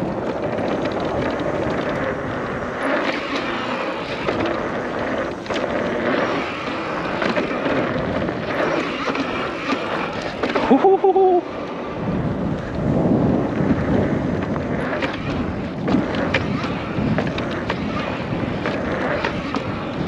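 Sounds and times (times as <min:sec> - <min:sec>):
tyres rolling over dirt: 0:00.0 - 0:20.0.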